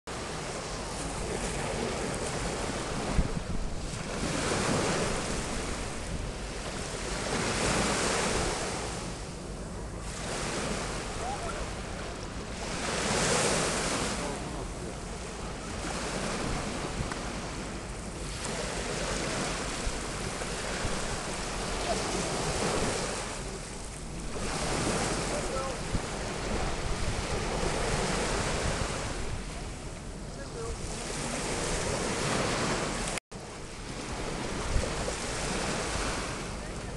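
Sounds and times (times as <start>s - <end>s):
small waves washing on shore: 0.1s - 36.9s
wind rumble on microphone: 0.1s - 36.9s.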